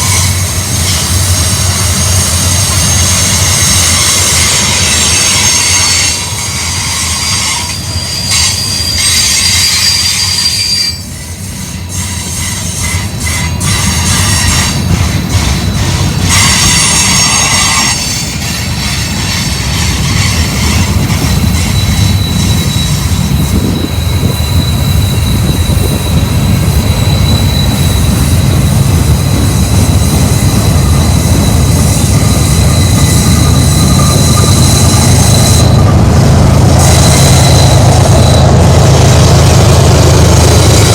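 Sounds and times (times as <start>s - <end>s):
train wheels squealing: 0.0s - 40.9s.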